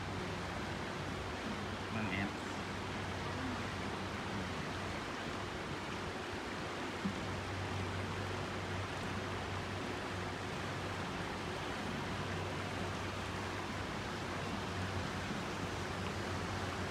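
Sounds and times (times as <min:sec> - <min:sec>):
boat water rushing: 0:00.0 - 0:16.9
low engine hum: 0:00.0 - 0:16.9.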